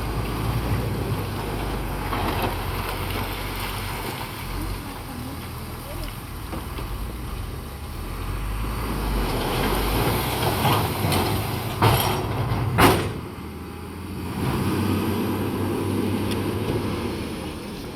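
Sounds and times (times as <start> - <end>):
diesel earthmoving machinery engine: 0.0 - 17.9.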